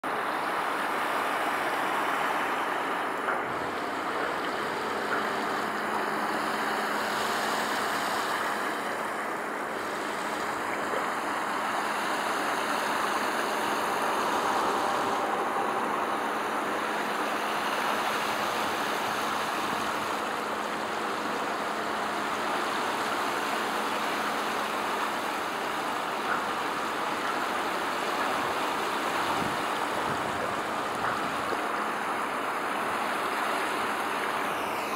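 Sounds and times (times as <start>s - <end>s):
distant traffic: 0.0s - 34.9s
rushing water: 0.0s - 34.9s.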